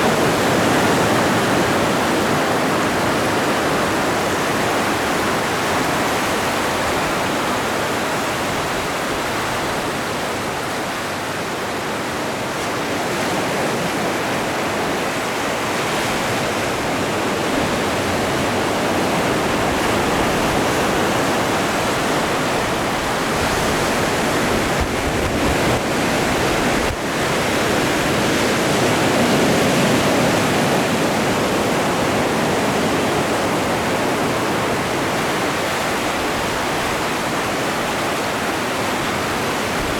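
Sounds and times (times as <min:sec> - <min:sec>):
ocean surf waves breaking: 0:00.0 - 0:39.9.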